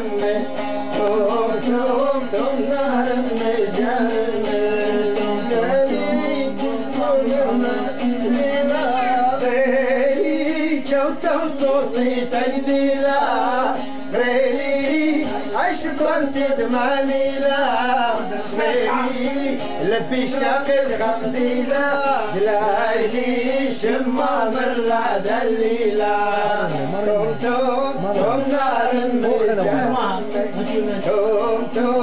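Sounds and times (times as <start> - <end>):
man singing: 0.0 - 32.0
plucked long-necked lute: 0.0 - 32.0.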